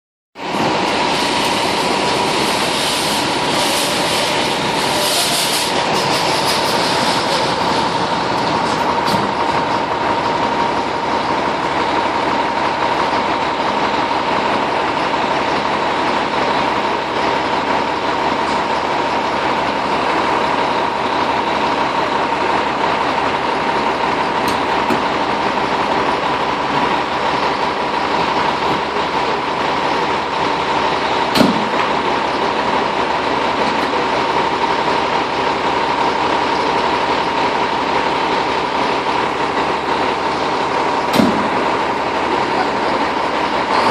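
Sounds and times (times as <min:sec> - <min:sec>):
fire engine siren: 0:00.4 - 0:43.9
loud rushing noise: 0:00.4 - 0:43.9.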